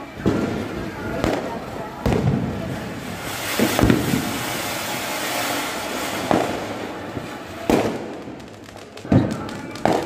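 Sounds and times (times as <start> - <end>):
firework fountain hissing: 0.0 - 10.0
firecracker bangs: 0.1 - 10.0.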